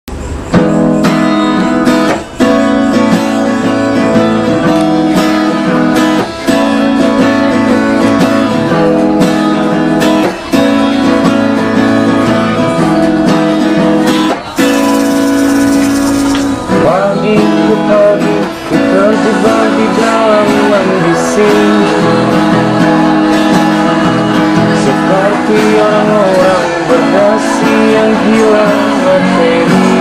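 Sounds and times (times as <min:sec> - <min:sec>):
strummed acoustic guitar chords: 0:00.1 - 0:30.0.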